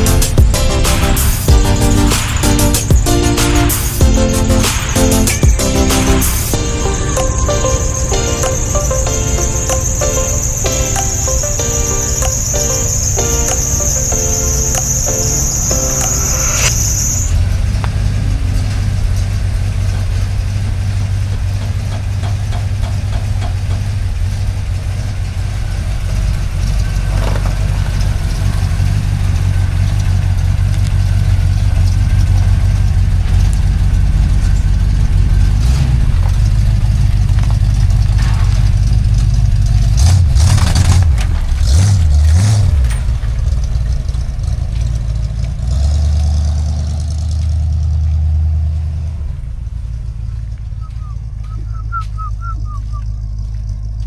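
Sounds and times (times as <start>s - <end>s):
pickup truck engine running: 0.0s - 54.0s.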